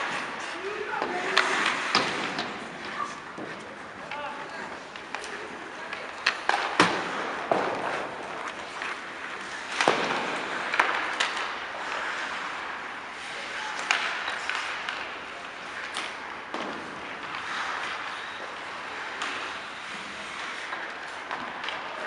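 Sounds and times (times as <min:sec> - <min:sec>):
hockey sticks and puck clacking: 0:00.0 - 0:22.0
skates scraping on ice: 0:00.0 - 0:22.0.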